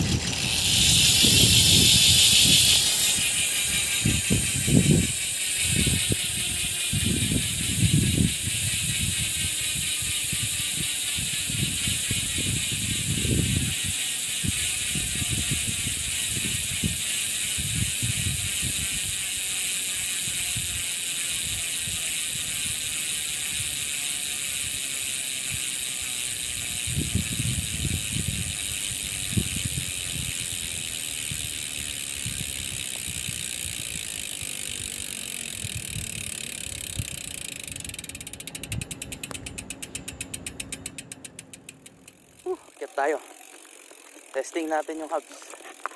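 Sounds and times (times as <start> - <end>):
bicycle hub ratchet buzzing: 0.0 - 45.9.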